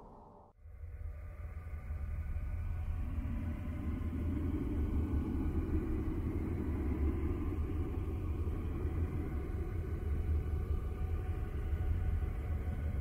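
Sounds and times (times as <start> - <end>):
deep rumbling drone: 0.0 - 13.0.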